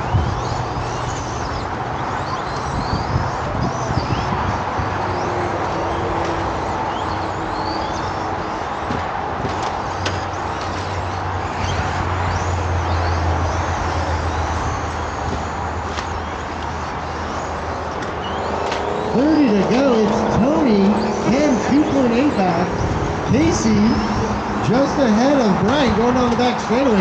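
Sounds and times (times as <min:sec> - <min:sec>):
high motor whines: 0:00.0 - 0:27.0
rc trucks motor and tyre noise: 0:00.0 - 0:27.0.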